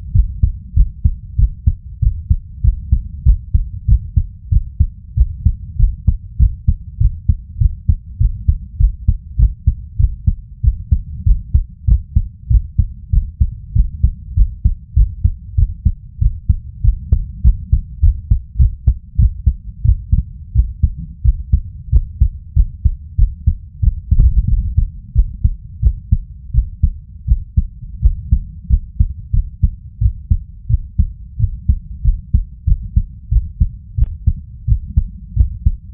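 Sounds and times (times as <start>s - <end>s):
muffled heartbeat thumps: 0.0s - 35.9s.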